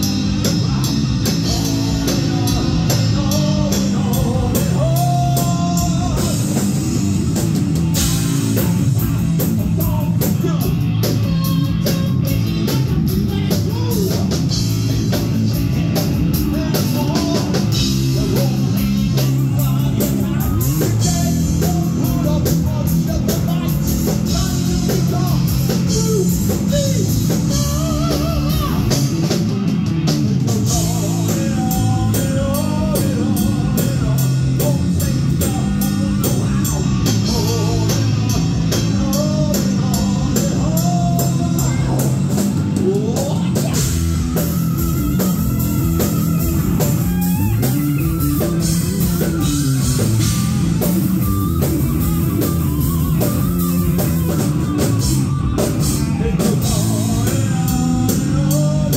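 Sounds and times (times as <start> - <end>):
bending guitar lead line: 0.0 - 58.9
heavy metal band playing: 0.0 - 58.9.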